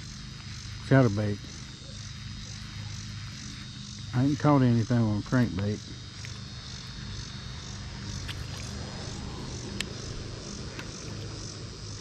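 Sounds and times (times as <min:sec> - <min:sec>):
insects pulsing chorus: 0:00.0 - 0:12.0
low steady hum: 0:00.0 - 0:12.0.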